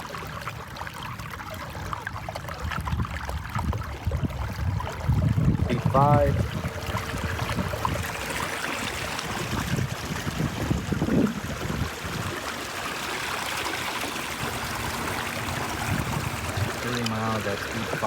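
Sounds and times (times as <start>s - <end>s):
water rushing past a kayak: 0.0s - 18.0s.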